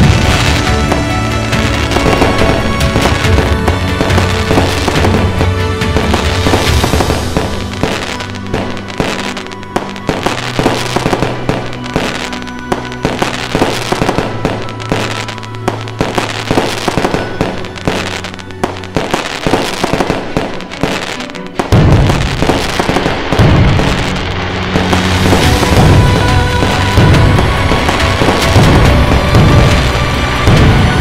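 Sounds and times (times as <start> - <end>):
heavy low rumble: 0.0 - 20.8, 21.7 - 31.0
fireworks bangs and crackles: 0.0 - 31.0
music with held notes: 0.0 - 31.0.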